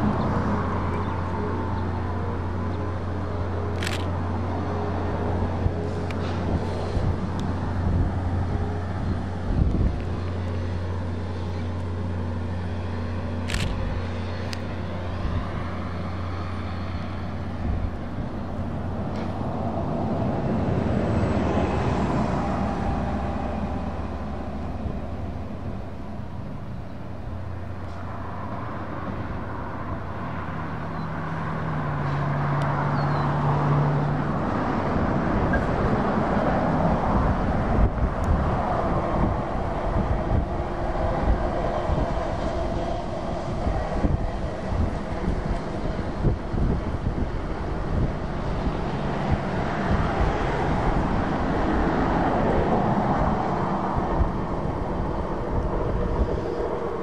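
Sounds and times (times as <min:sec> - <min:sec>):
diesel locomotive engine hum: 0:00.0 - 0:57.0.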